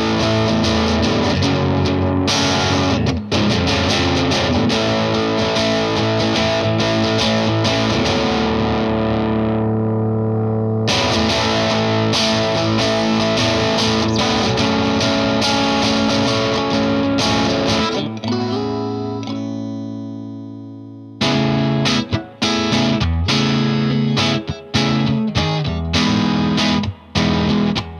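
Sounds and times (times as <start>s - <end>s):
electric guitar chords and riffs: 0.0s - 27.9s.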